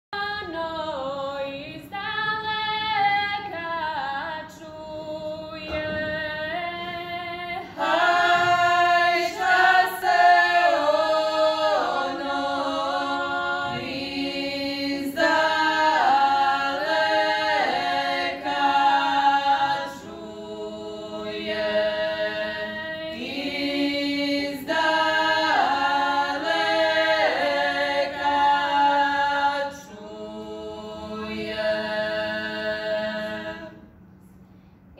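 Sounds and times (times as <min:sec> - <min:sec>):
women singing unaccompanied: 0:00.2 - 0:33.8.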